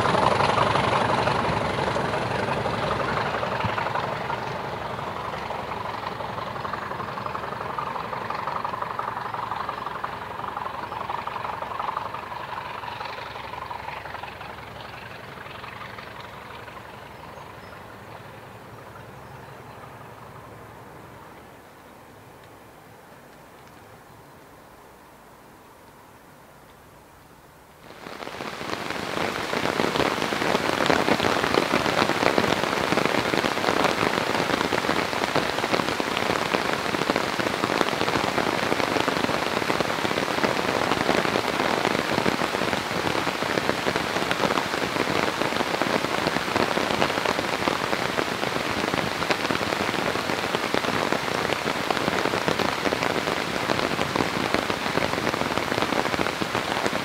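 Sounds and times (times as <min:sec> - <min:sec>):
heavy rain falling: 0:00.0 - 0:21.8, 0:27.8 - 0:57.0.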